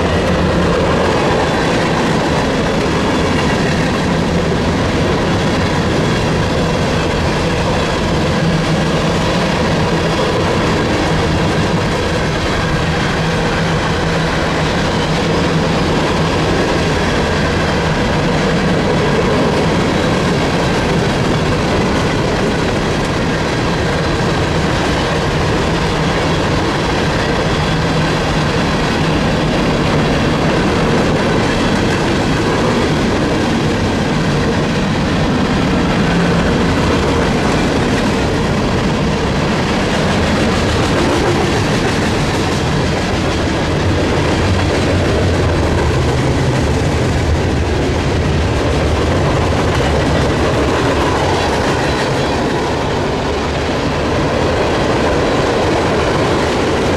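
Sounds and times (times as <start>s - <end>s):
train wheels clacking over rail joints: 0.0s - 56.9s.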